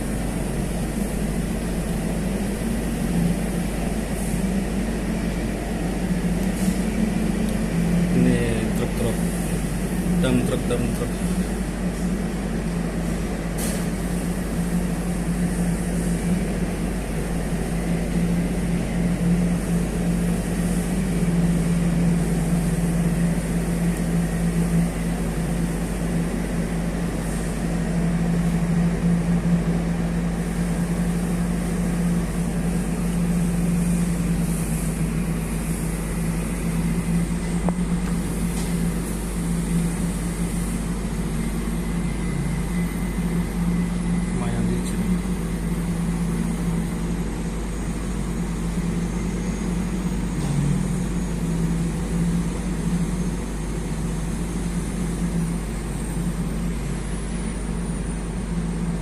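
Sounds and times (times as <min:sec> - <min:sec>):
diesel engine running: 0:00.0 - 0:59.0
steady rumble: 0:00.0 - 0:59.0.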